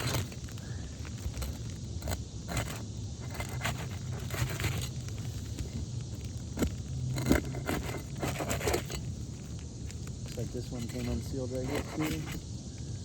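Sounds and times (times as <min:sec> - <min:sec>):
roof shingles scraping and crackling: 0:00.0 - 0:12.5.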